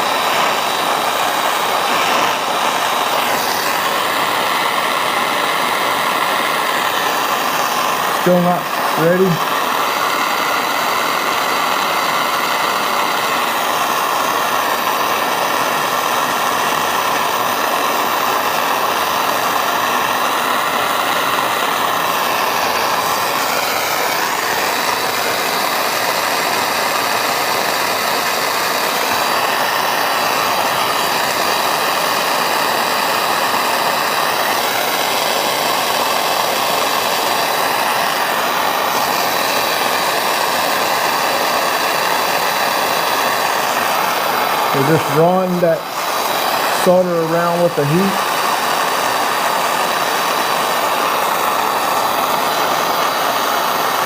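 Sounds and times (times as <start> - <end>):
torch flame rushing: 0.0 - 54.0.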